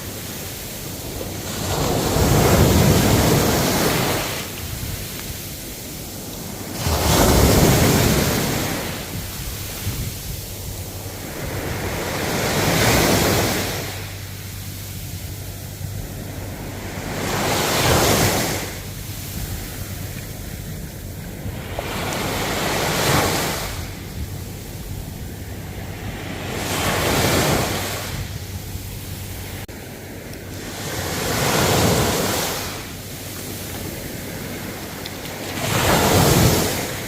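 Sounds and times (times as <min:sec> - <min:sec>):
ocean waves breaking on shore: 0:00.0 - 0:37.0.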